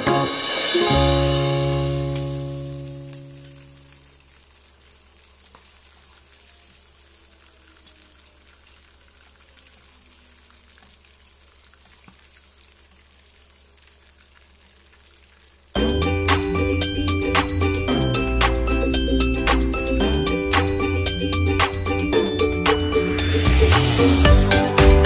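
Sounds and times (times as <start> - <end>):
food sizzling in oil: 0.0 - 24.8.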